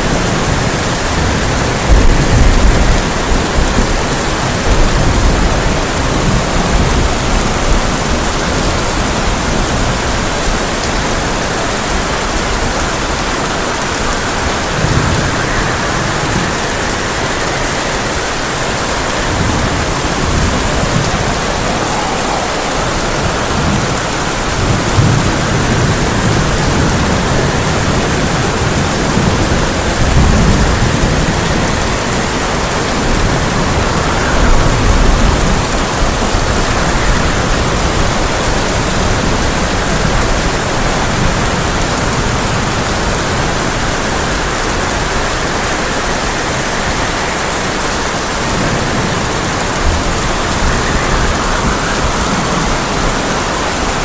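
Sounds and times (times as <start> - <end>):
heavy rain on a tin roof: 0.0 - 54.0
thunder rumbling: 0.0 - 54.0.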